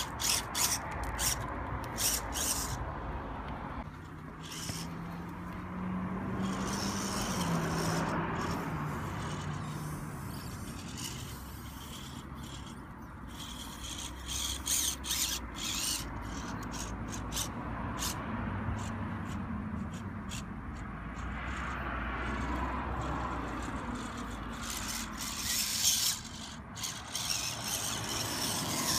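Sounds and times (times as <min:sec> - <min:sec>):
electric motor whining: 0:00.0 - 0:02.8, 0:03.8 - 0:18.2, 0:21.1 - 0:28.9
tyres scraping and clicking over rock: 0:00.0 - 0:02.8, 0:03.4 - 0:05.7, 0:06.3 - 0:28.9.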